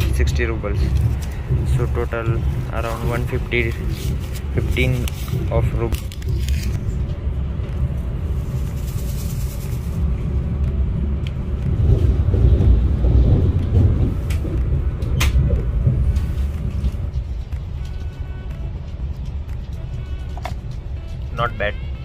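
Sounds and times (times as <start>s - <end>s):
passenger train rumble: 0.0s - 22.0s.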